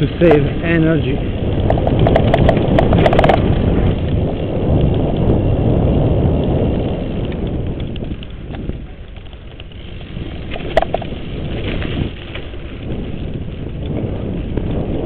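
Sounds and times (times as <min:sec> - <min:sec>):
bike rolling rumble: 0:00.0 - 0:15.0
freewheel ticking: 0:00.0 - 0:15.0
wind buffeting microphone: 0:00.0 - 0:15.0.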